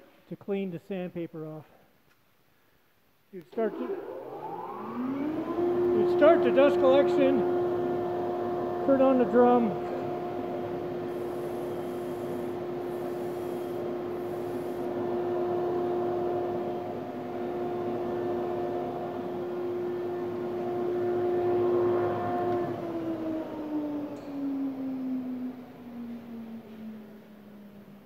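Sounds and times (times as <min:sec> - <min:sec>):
dust collector running: 0:03.4 - 0:27.3
drum sander humming: 0:03.5 - 0:27.5.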